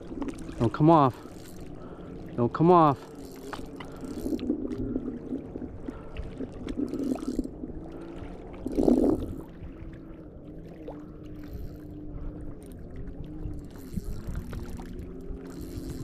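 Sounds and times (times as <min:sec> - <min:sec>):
steady low hum: 0:00.0 - 0:16.0
water splashing: 0:00.0 - 0:16.0.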